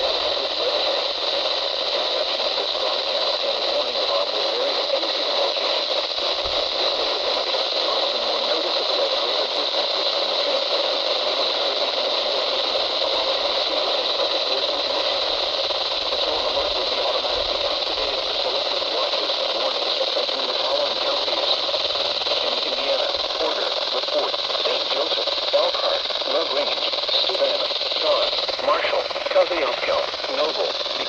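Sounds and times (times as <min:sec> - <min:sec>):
radio static hiss: 0:00.0 - 0:31.0.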